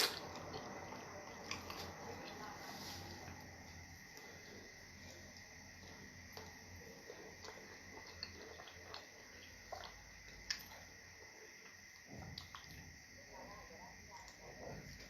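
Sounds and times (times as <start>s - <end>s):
wet chewing and squishing: 0.0s - 2.5s, 3.2s - 13.0s.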